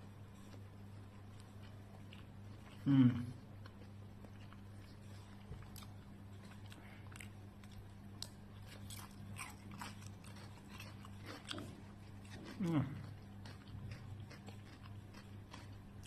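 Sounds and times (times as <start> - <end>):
steady low hum: 0.0 - 16.0
person chewing: 0.3 - 16.0.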